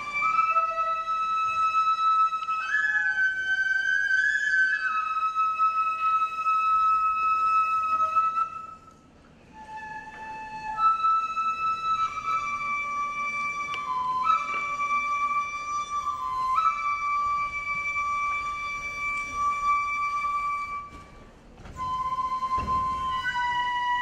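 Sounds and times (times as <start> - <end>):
bamboo flute playing held notes: 0.0 - 24.0.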